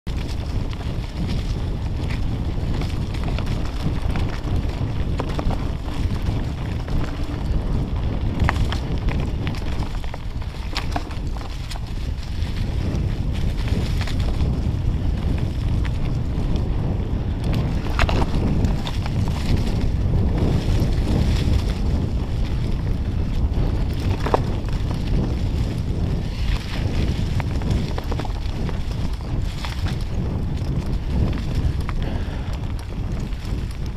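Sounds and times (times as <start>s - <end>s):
wind rumble on microphone: 0.0s - 33.9s
bike clicks and rattles: 0.1s - 33.9s
bike tyres on dirt trail: 0.1s - 33.9s.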